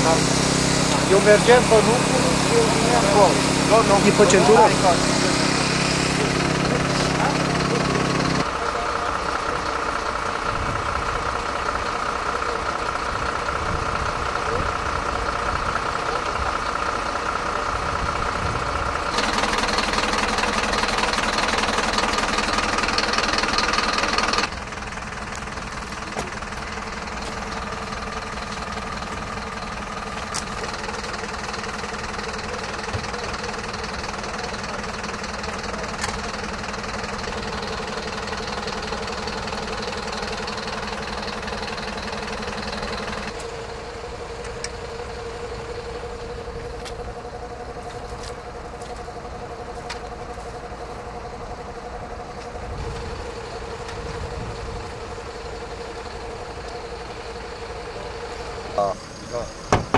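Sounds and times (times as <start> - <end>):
engines idling: 0.0 - 59.9.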